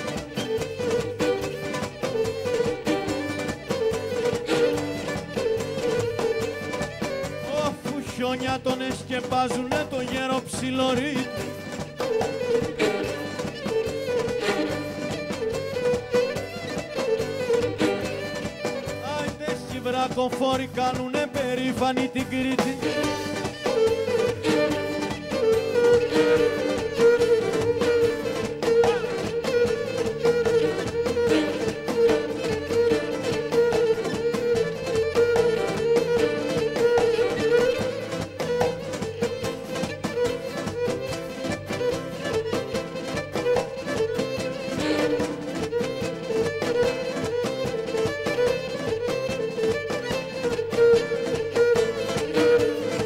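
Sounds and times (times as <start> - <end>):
band accompaniment with steady beat: 0.0 - 53.0
lyra playing folk dance tune: 0.0 - 53.0.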